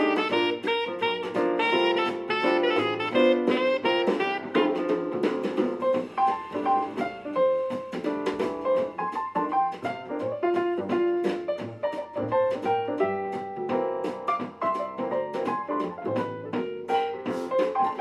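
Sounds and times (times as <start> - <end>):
light instrumental music: 0.0 - 18.0.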